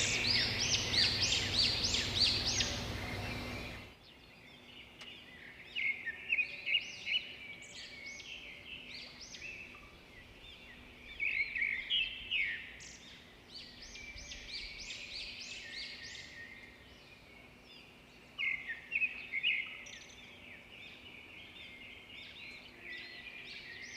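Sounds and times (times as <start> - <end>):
birds chirping and singing: 0.0 - 23.9.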